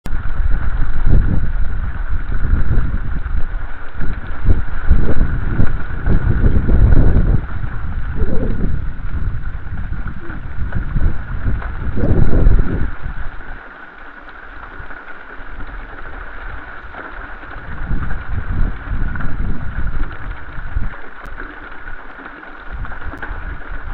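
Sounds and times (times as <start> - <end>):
wind buffeting microphone: 0.1 - 13.7, 14.6 - 23.9.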